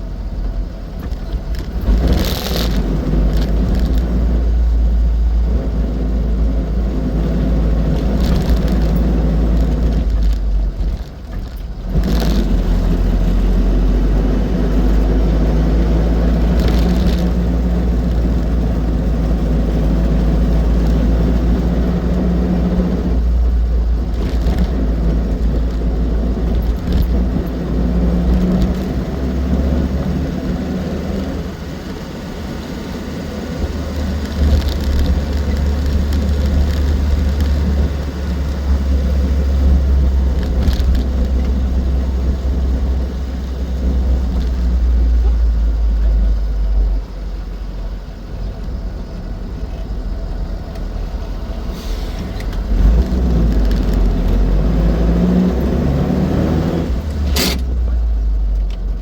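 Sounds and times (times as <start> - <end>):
car engine drone: 0.0 - 59.0
road rumble: 0.0 - 59.0.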